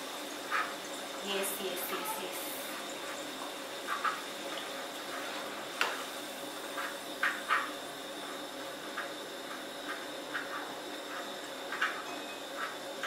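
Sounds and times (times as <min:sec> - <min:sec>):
potatoes sizzling in hot oil: 0:00.0 - 0:13.0.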